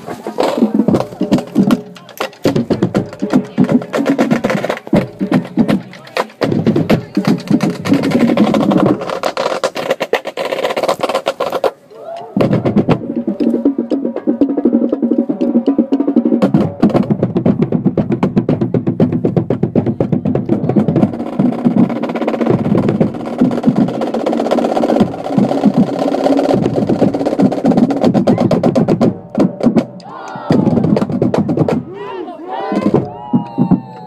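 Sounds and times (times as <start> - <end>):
marching band playing: 0.0 - 34.0.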